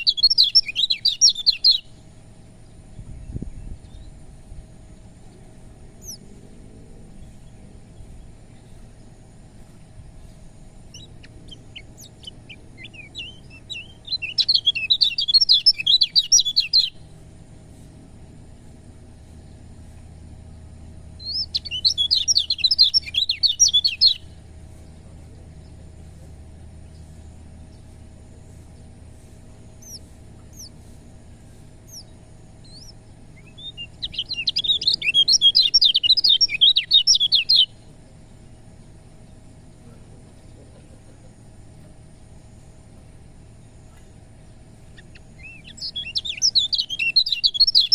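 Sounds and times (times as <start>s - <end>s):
bird twittering chirps: 0.0s - 4.3s, 5.1s - 17.4s, 19.1s - 26.0s, 26.8s - 42.7s, 43.5s - 47.9s.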